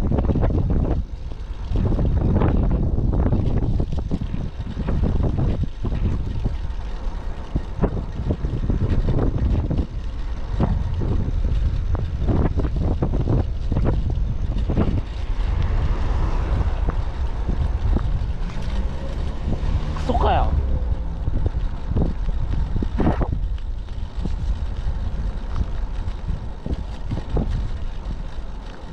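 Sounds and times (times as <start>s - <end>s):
heavy wind buffeting microphone: 0.0s - 28.9s.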